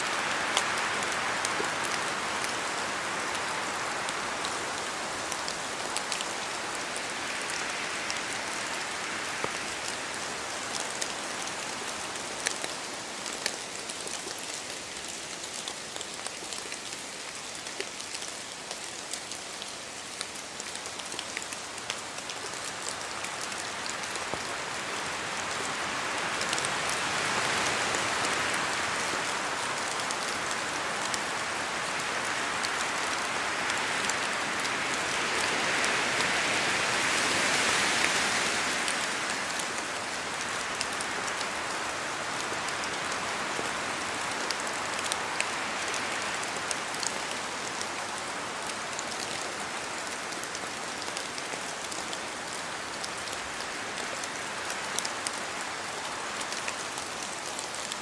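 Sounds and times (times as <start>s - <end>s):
steady rain in a forest: 0.0s - 58.0s.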